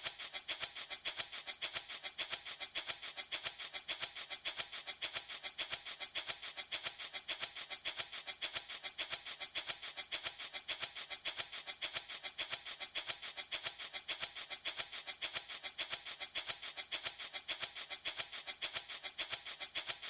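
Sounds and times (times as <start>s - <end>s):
baby rattle shaken: 0.0s - 20.0s.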